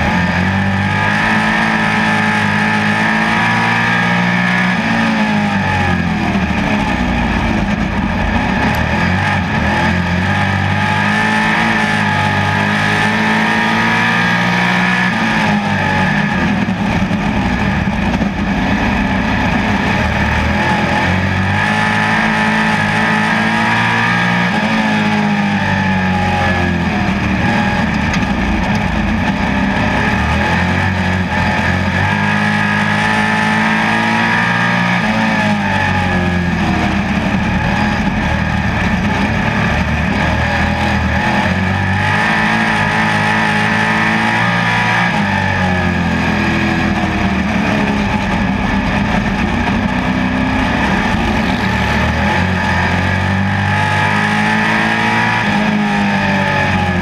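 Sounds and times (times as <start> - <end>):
race car engine revving: 0.0 - 57.0
steady rush of noise: 0.0 - 57.0.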